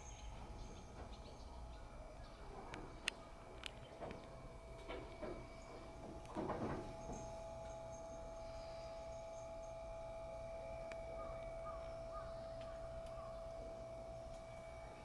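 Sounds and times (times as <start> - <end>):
steady tone: 0.0 - 15.0.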